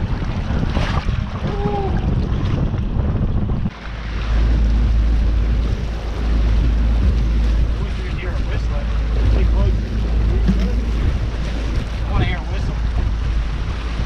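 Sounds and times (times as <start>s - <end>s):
boat rushing over water: 0.0s - 14.0s
wind buffeting microphone: 0.0s - 14.0s.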